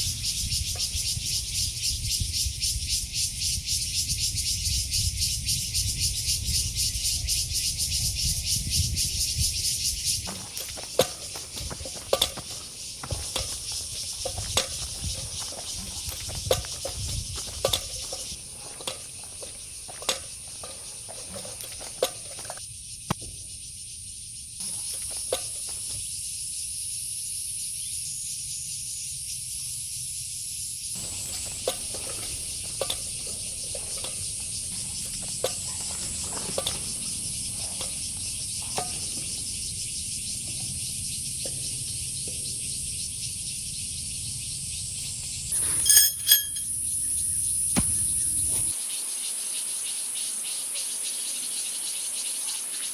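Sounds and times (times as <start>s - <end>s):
night insects chirring: 0.0s - 52.9s.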